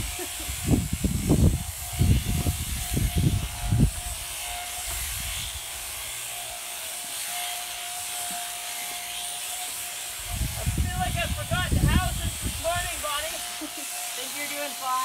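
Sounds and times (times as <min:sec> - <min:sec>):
electric sheep shears running: 0:00.0 - 0:15.0.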